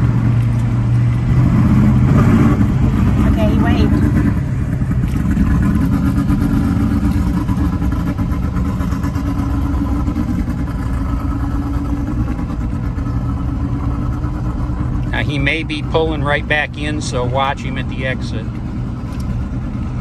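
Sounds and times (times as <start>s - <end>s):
pickup truck engine drone: 0.0s - 20.0s
road noise: 0.0s - 20.0s.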